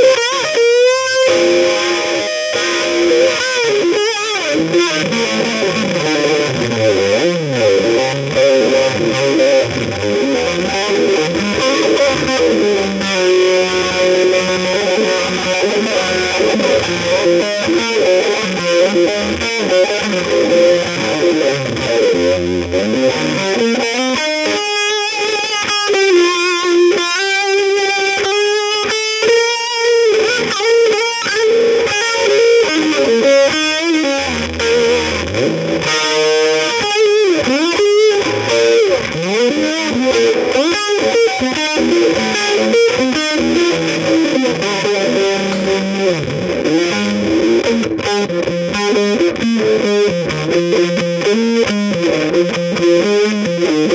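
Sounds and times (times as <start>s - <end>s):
distorted electric guitar: 0.0s - 53.9s.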